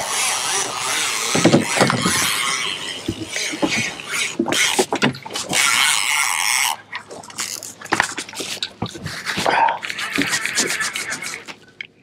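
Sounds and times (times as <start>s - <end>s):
fishing reel drag buzzing: 0.0s - 7.8s, 9.1s - 11.5s.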